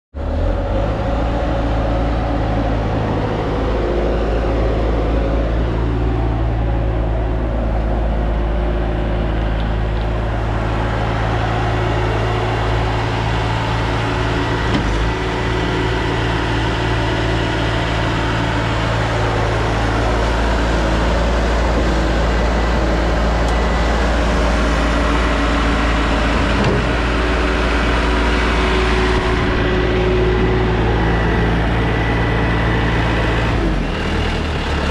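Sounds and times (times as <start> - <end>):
diesel engine droning: 0.1 - 34.9.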